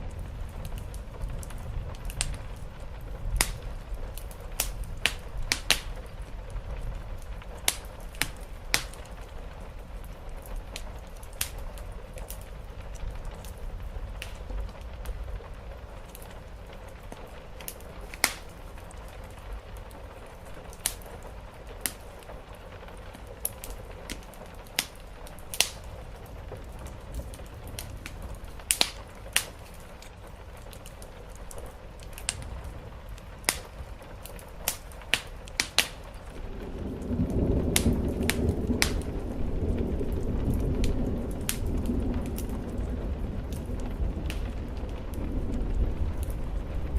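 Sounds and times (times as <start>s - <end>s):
rain hissing: 0.0s - 46.9s
thunder rumbling: 0.0s - 46.9s
wood fire crackling and popping: 0.0s - 46.9s.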